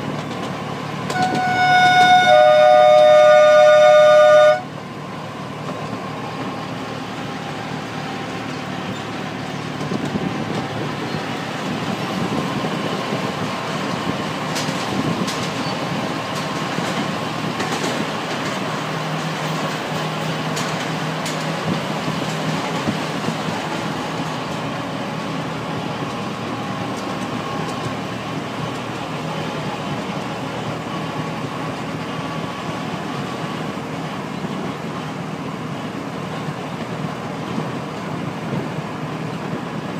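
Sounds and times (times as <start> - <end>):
wheels clicking on track: 0.0 - 39.9
wheels rumbling on rails: 0.0 - 39.9.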